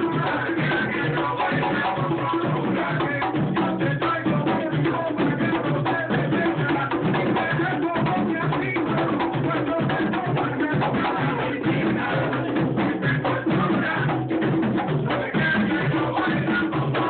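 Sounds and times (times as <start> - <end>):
frame drums struck by hand: 0.0 - 17.0.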